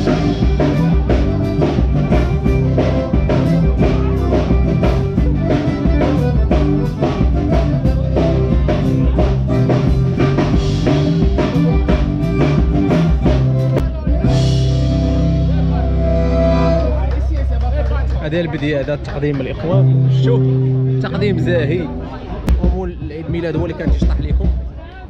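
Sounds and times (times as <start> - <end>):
drum kit beat: 0.0 - 17.0, 18.1 - 24.8.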